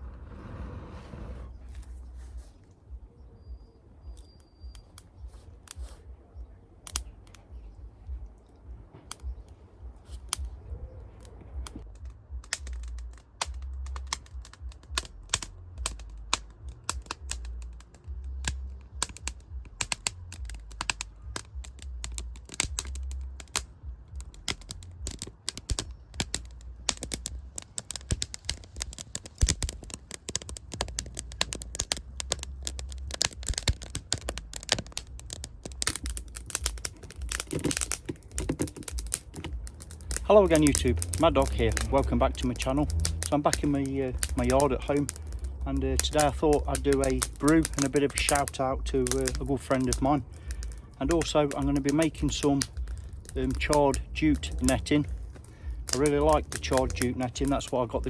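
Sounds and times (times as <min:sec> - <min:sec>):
low rumble: 0:00.0 - 0:58.0
wood fire crackling and popping: 0:04.0 - 0:06.2, 0:06.8 - 0:58.0.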